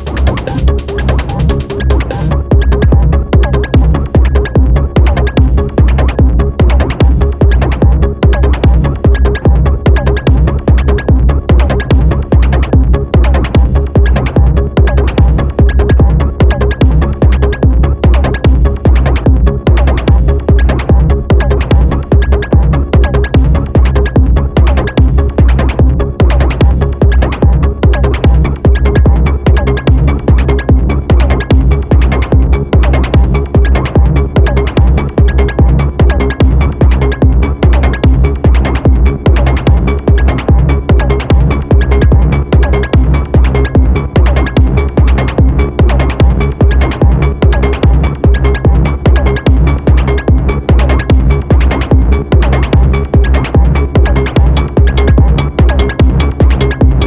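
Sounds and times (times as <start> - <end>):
electronic techno music: 0.0 - 57.0.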